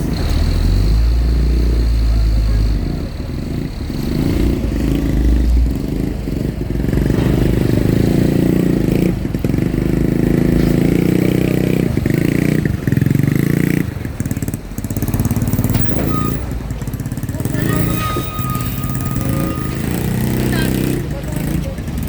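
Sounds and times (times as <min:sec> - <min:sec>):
vehicle engines running: 0:00.0 - 0:22.0.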